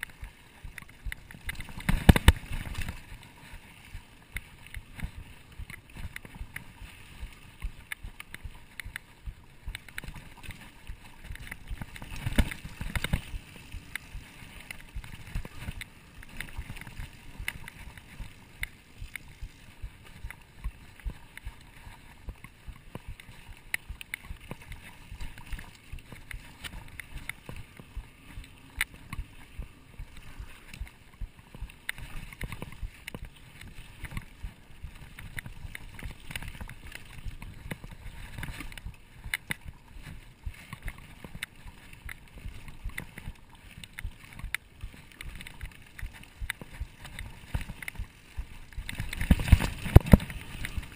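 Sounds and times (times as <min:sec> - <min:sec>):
bike rattling over bumps: 0:00.0 - 0:50.9
bike tyres rumbling on trail: 0:00.0 - 0:50.9.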